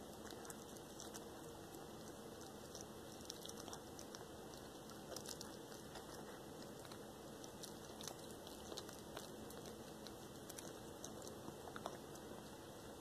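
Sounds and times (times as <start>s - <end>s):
cat chewing raw meat: 0.0s - 13.0s.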